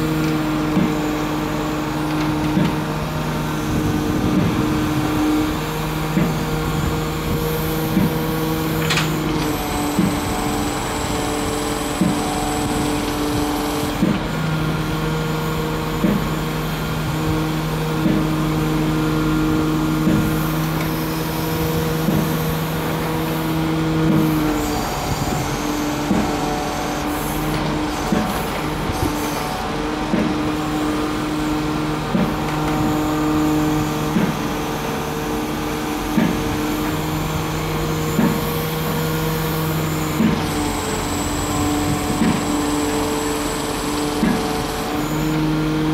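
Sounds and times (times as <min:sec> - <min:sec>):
excavator engine and hydraulic hum: 0:00.0 - 0:45.9.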